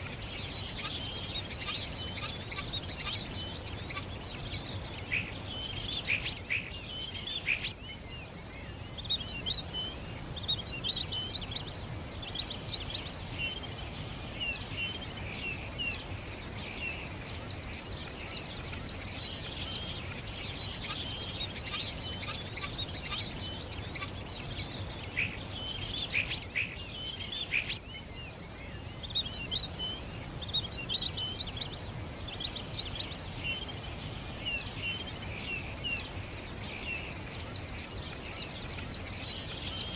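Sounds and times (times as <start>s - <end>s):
low background hiss: 0.0s - 39.9s
songbirds chirping: 0.0s - 39.9s.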